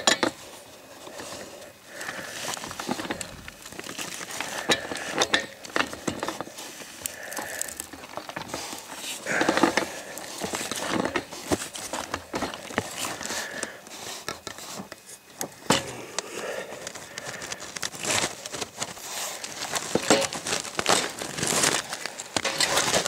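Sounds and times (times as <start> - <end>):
scraping and rustling: 0.0 - 23.0.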